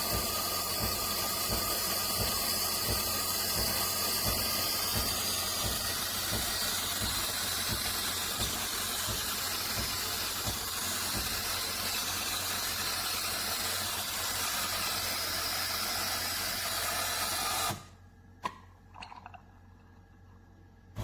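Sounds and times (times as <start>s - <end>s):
steady hissing: 0.0s - 17.1s.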